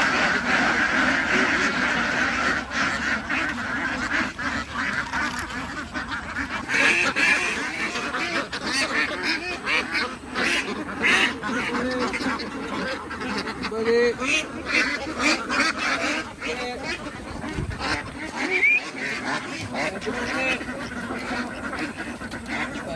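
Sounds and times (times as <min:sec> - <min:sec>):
ducks quacking: 0:00.0 - 0:22.9.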